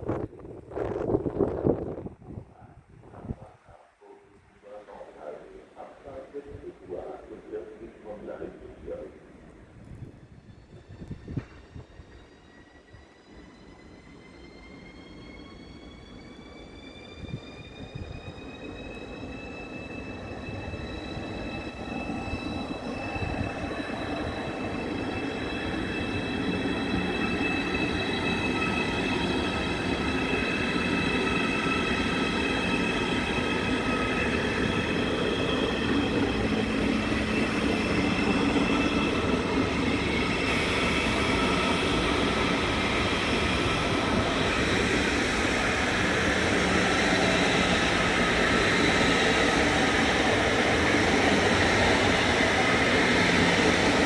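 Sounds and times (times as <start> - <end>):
high whining train tones: 0.0 - 54.0
rumble of train wheels: 0.0 - 54.0.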